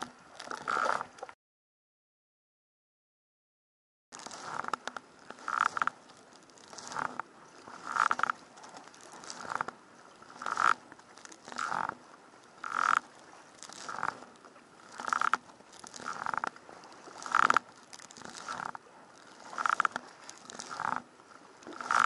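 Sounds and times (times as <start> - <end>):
paddle splashing: 0.0 - 1.4, 4.2 - 22.0
water washing against hull: 4.2 - 22.0.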